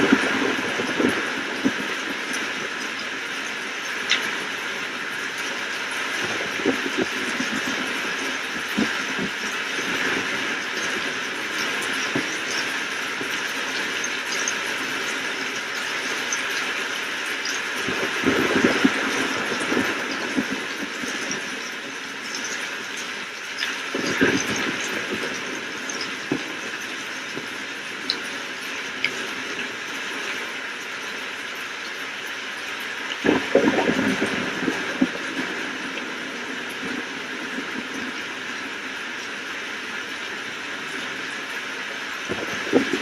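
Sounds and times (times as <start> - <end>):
crackling thunder rumbles: 0.0 - 16.6, 17.7 - 30.4, 32.9 - 41.6, 42.2 - 43.0
heavy rain hissing: 0.0 - 43.0.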